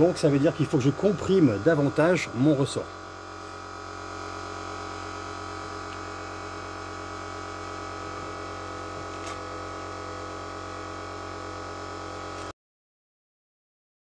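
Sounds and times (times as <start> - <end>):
steady electrical hum: 0.0 - 12.5.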